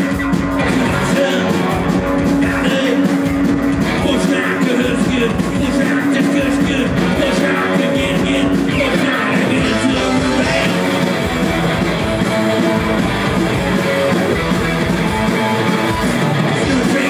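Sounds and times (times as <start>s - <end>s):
electric guitar: 0.0s - 17.0s
punk rock band playing: 0.0s - 17.0s.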